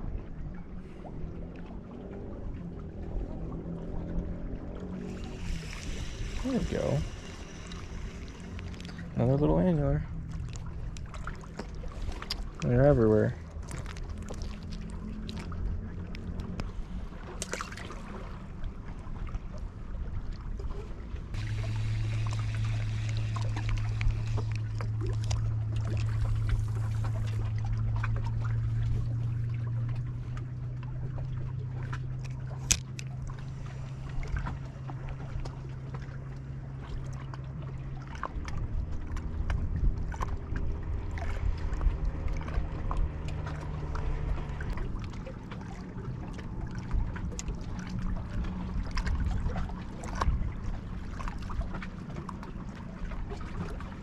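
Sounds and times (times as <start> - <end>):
boat engine humming: 0.0 - 54.0
water lapping against rocks: 0.0 - 54.0.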